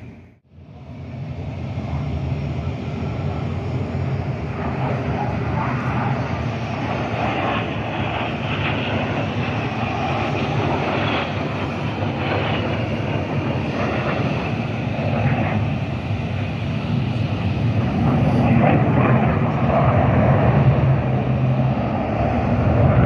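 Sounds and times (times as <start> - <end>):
airplane engine drone: 0.0 - 23.0.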